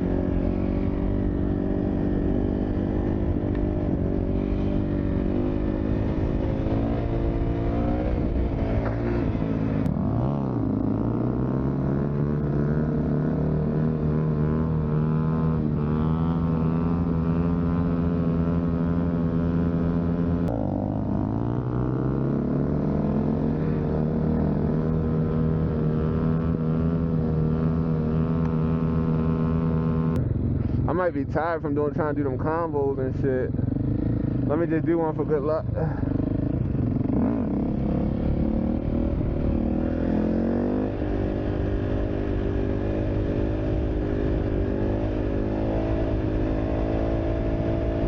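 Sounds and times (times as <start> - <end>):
dirt bike engine running hard: 0.0 - 31.0, 31.8 - 48.0.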